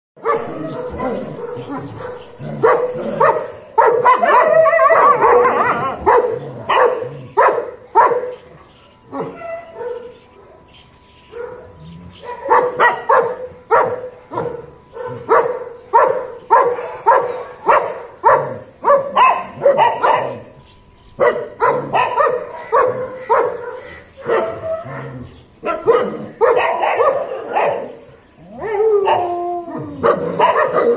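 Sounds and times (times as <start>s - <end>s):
dogs barking and yipping: 0.2s - 30.9s.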